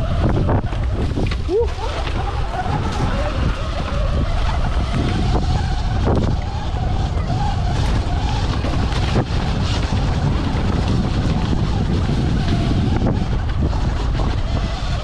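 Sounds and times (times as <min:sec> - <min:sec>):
electric motor whine: 0:00.0 - 0:15.0
low rumble from riding: 0:00.0 - 0:15.0.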